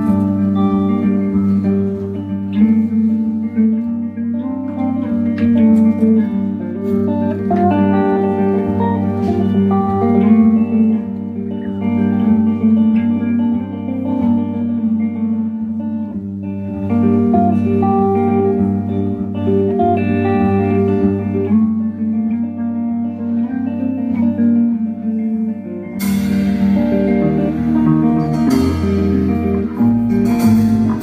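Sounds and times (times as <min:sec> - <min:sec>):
drums: 0:00.0 - 0:31.0
electric bass line: 0:00.0 - 0:31.0
electric guitar melody: 0:00.0 - 0:31.0.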